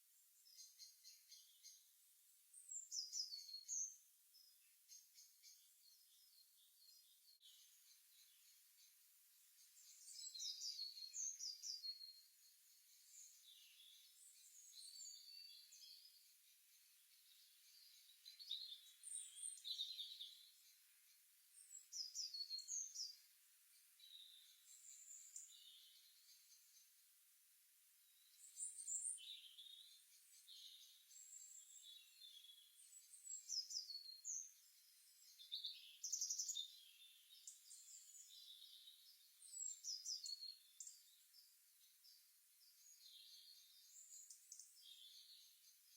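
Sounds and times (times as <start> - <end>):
songbirds chirping and singing: 0.4 - 27.2, 28.0 - 45.9.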